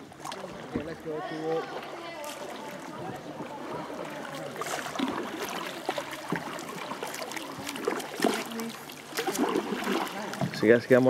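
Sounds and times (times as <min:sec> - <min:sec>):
paddle splashes: 0:00.0 - 0:11.0
water dripping off paddles: 0:00.0 - 0:11.0
voices talking in background: 0:00.2 - 0:11.0.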